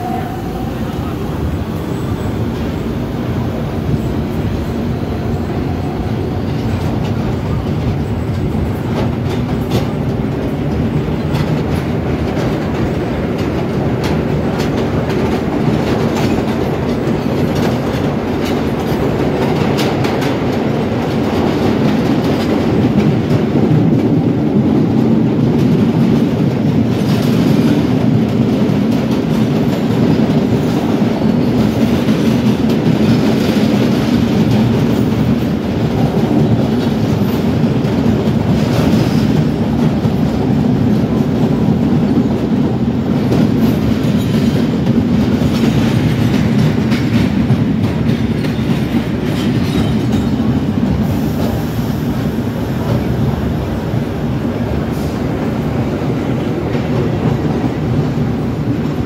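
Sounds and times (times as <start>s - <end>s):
train wheels rumbling on rail: 0.0s - 59.0s
wheels clacking over rail joints: 4.4s - 51.6s.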